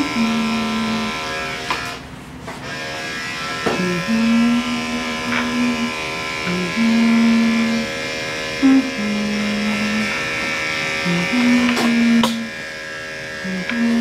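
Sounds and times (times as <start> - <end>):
electric clippers buzzing: 0.0 - 14.0.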